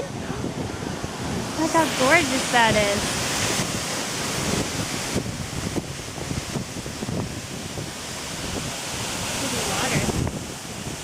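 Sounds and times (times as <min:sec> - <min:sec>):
waterfall and river rushing: 0:00.0 - 0:11.0
wind buffeting microphone: 0:00.0 - 0:11.0.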